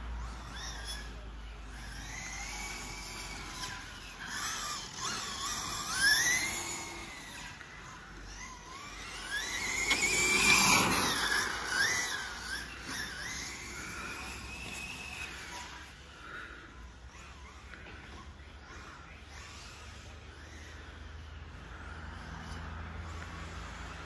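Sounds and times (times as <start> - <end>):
radio-controlled car motors whining: 0.0 - 24.0.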